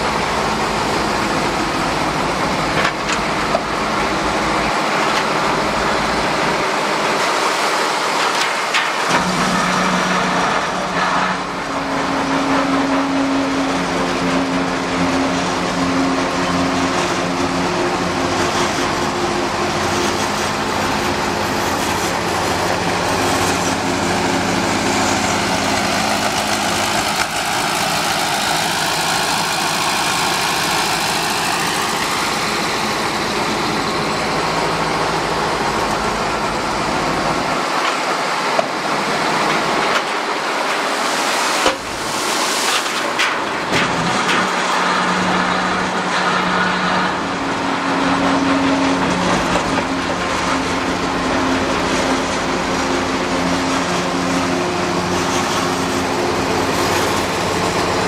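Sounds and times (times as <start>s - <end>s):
diesel excavator engine under load: 0.0s - 58.0s.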